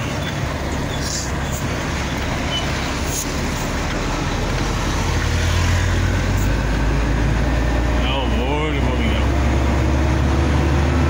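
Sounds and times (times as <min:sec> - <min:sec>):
road noise: 0:00.0 - 0:11.0
truck diesel engine droning: 0:00.0 - 0:11.0.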